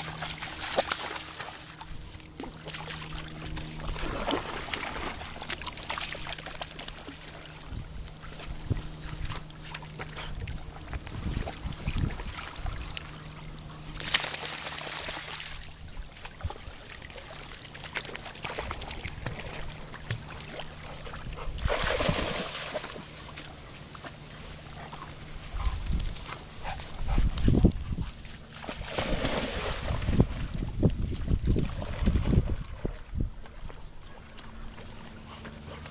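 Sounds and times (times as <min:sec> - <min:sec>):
water splashing and sloshing: 0:00.0 - 0:35.9.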